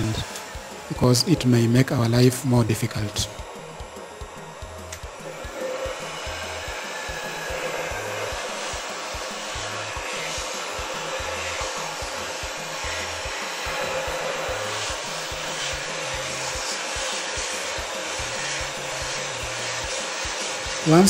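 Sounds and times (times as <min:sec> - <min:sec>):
heat gun blowing hot air: 0:00.0 - 0:21.0.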